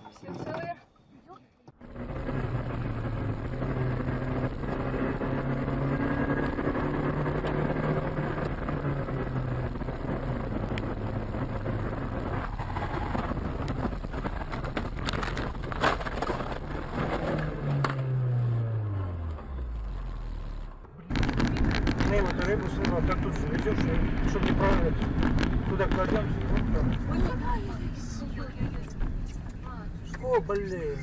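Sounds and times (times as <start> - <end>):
road noise: 0.0 - 31.0
car engine: 1.7 - 31.0.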